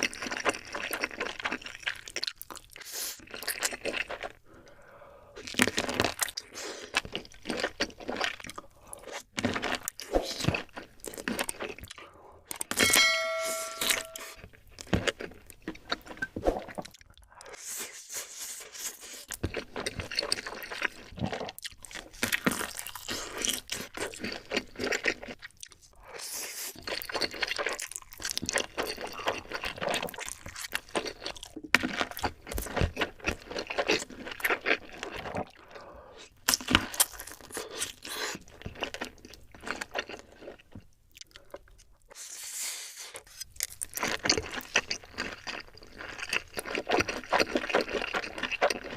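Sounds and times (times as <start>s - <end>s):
person chewing crisp food: 0.0s - 12.7s, 14.5s - 48.9s.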